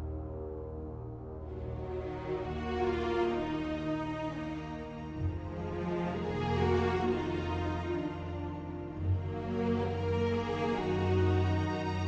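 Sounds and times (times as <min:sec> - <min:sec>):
slow background music: 0:00.0 - 0:12.0.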